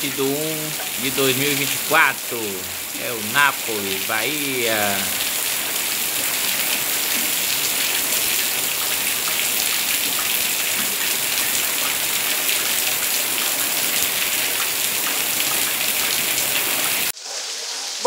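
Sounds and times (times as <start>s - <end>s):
rain on pavement: 0.0s - 18.0s.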